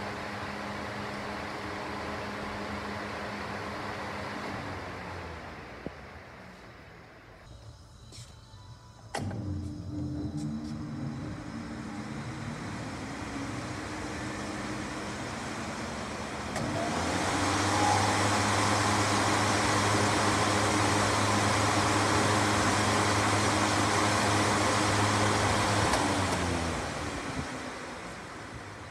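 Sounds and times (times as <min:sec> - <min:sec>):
heater fan humming: 0:00.0 - 0:28.9.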